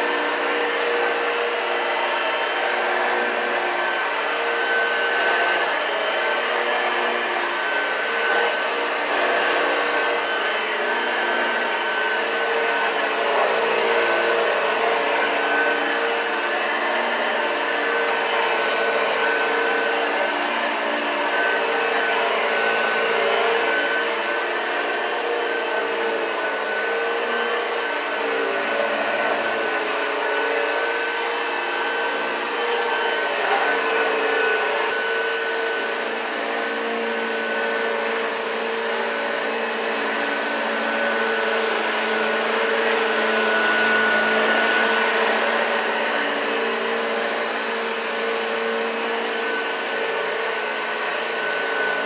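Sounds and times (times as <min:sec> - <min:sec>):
vacuum cleaner motor whine: 0:00.0 - 0:52.0.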